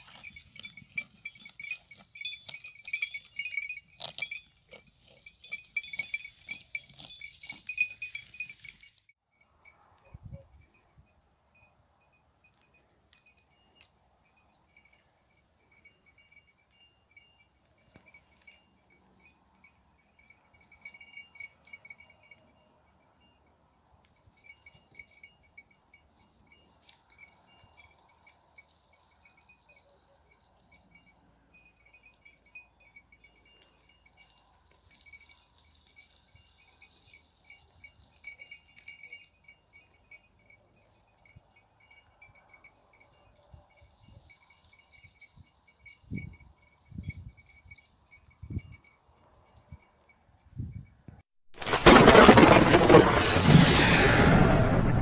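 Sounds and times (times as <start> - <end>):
goat bells jingling: 0.0 - 53.0.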